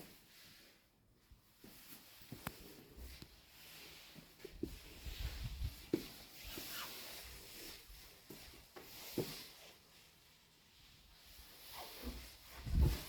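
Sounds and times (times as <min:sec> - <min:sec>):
faint rustling handling noise: 0:00.0 - 0:13.0.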